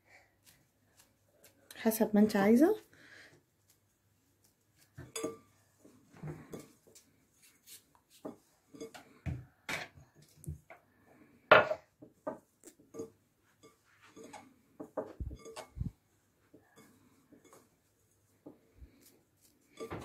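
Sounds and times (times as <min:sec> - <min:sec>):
dough rustling in a bowl: 0:00.1 - 0:09.0, 0:12.1 - 0:20.0.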